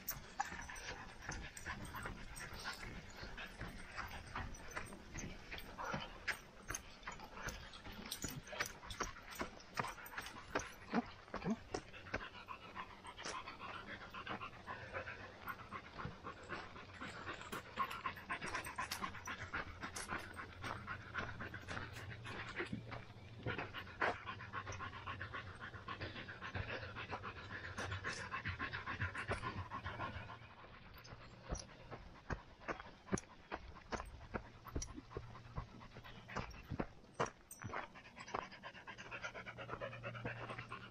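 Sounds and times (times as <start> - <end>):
rapid panting breaths: 0.0 - 40.9
running footsteps on a trail: 0.0 - 40.9.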